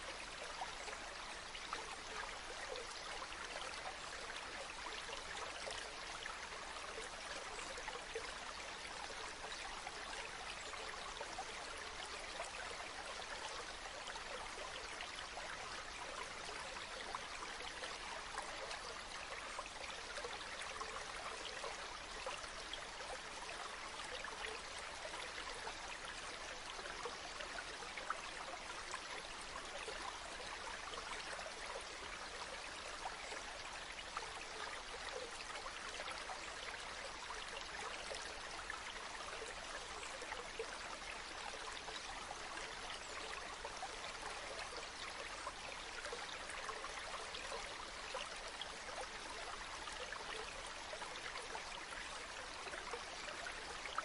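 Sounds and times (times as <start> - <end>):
stream babbling: 0.0 - 54.0.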